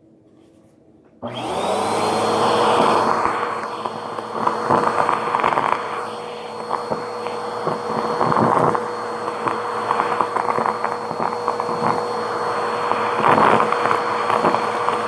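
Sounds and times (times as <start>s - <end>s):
vacuum cleaner running: 1.2s - 15.0s.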